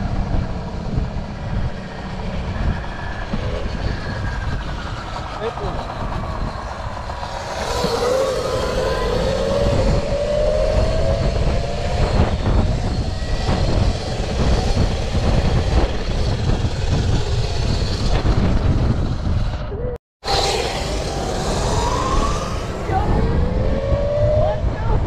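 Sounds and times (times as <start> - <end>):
wind rumble on microphone: 0.0 - 25.0
electric motor whine: 0.2 - 19.5, 20.3 - 24.4.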